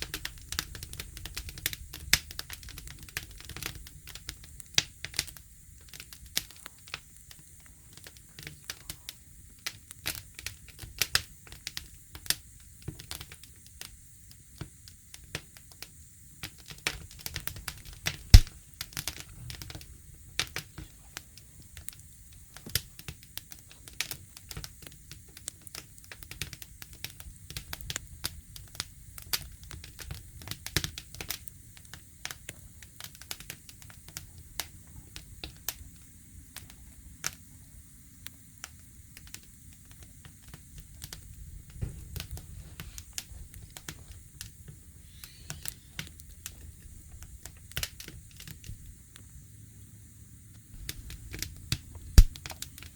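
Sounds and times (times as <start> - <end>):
wood fire rumbling: 0.0 - 49.5, 50.3 - 52.9
fire crackles and pops: 0.0 - 52.9.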